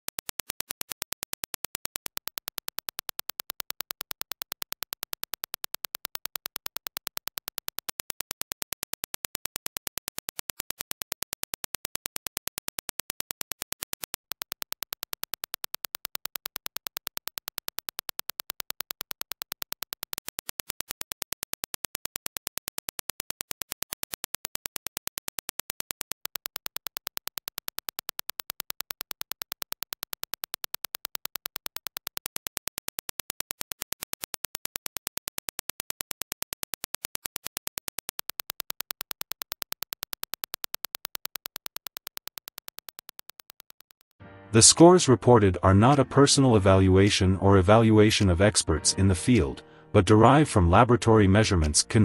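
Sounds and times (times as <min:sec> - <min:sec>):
rapid train of sharp clicks: 0:00.0 - 0:44.2.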